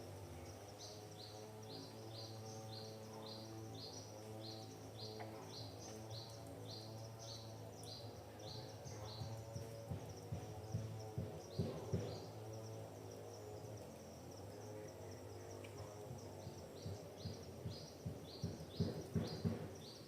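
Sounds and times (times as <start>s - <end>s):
low hum of held tones: 0.0s - 20.0s.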